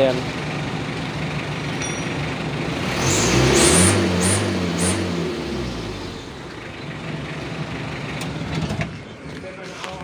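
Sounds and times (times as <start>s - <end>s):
diesel engine revving: 0.0s - 10.0s.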